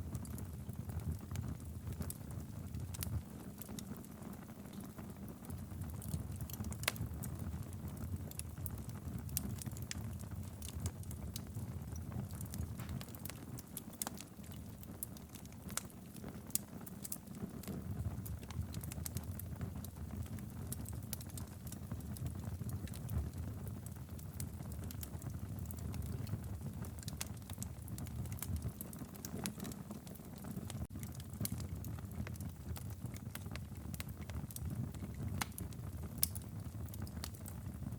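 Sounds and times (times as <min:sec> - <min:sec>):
low rumble of flames: 0:00.0 - 0:37.9
wood fire popping and snapping: 0:00.0 - 0:37.9.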